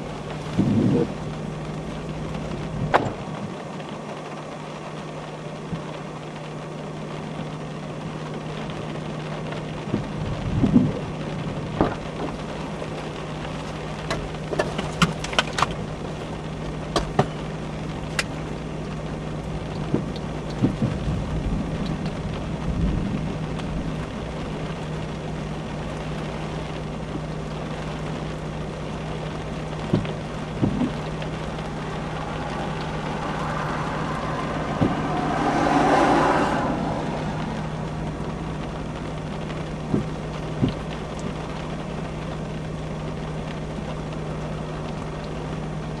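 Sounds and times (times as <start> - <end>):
low cabin hum: 0.0 - 46.0
low rumbles: 0.0 - 46.0
raindrops tapping on windshield: 0.0 - 46.0.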